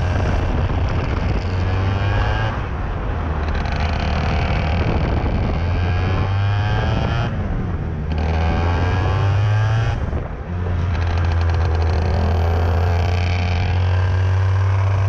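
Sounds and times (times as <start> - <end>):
kart engine running hard: 0.0 - 15.0.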